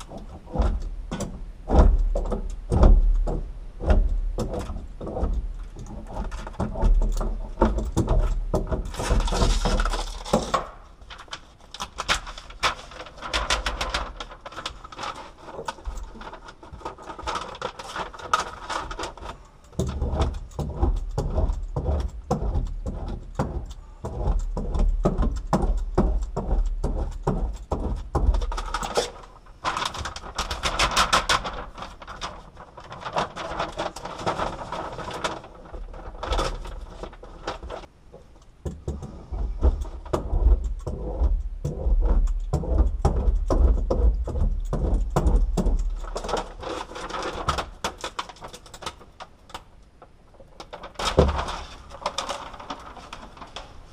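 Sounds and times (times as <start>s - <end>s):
foil sheets crackling and knocking: 0.0s - 53.9s.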